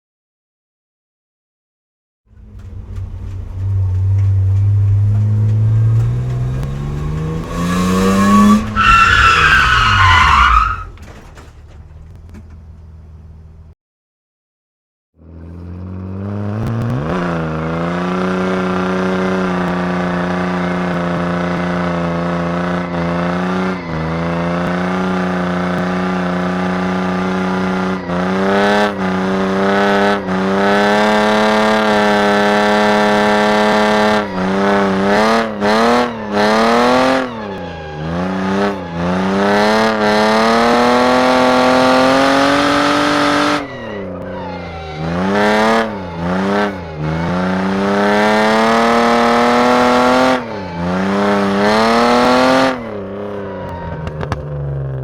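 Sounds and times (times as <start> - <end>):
car engine revving: 2.3 - 13.7, 15.2 - 55.0.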